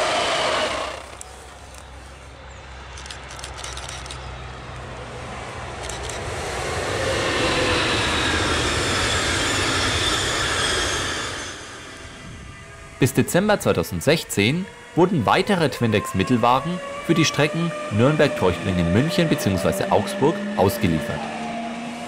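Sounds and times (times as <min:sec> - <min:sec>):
passenger train passing: 0:00.0 - 0:22.0.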